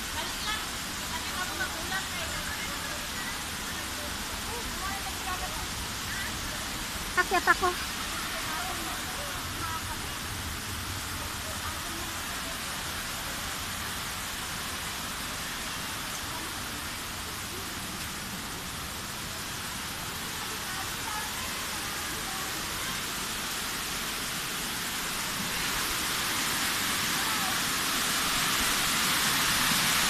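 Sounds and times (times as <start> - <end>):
waterfall rushing over rock: 0.0 - 30.0.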